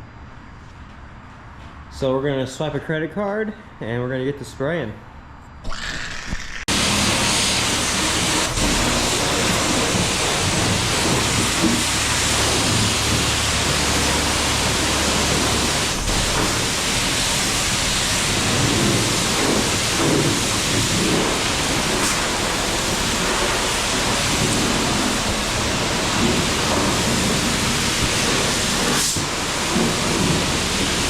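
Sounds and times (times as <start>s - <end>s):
high-pressure water spray hissing: 6.1s - 31.0s.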